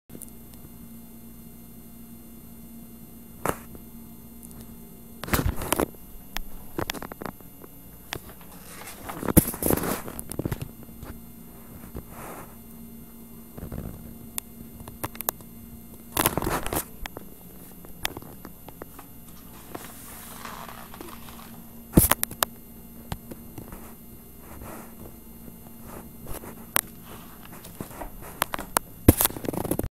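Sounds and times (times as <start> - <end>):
steady low hum: 0.1 - 29.9.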